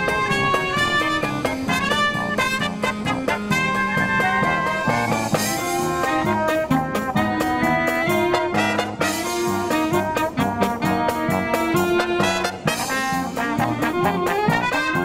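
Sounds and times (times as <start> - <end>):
brass band playing swing tune: 0.0 - 15.0
percussion beat: 0.0 - 15.0.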